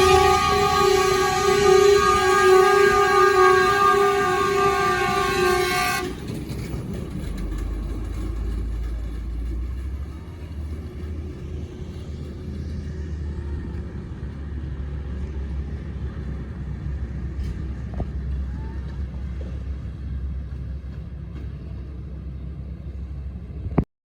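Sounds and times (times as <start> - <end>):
diesel locomotive engine rumbling: 0.0 - 23.9.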